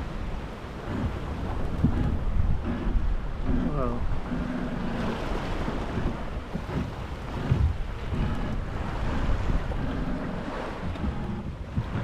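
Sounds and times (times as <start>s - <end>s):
water noise around hull: 0.0s - 12.0s
wind buffeting microphone: 0.0s - 12.0s.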